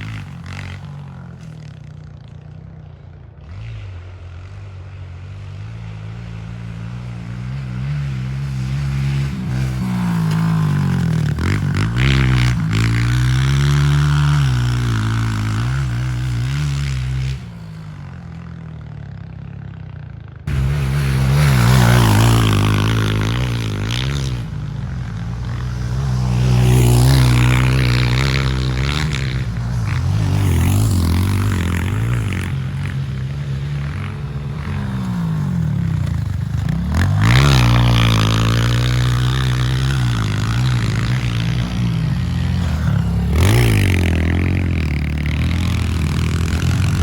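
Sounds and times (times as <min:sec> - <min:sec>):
dirt bike engine revving: 0:00.0 - 0:02.0, 0:03.2 - 0:18.8, 0:20.5 - 0:47.0.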